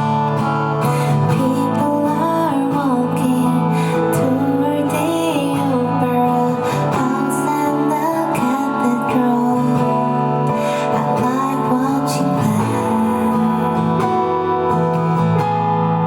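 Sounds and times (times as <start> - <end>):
acoustic guitar strumming chords: 0.0 - 16.0
woman singing: 0.8 - 14.7.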